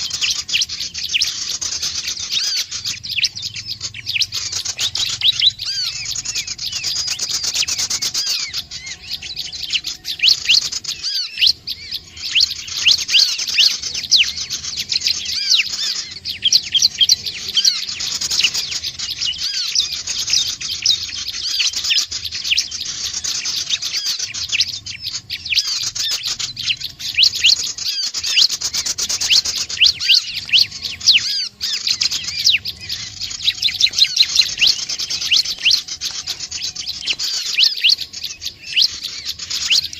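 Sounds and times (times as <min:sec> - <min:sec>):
bird high sharp chirps: 0:00.0 - 0:39.9.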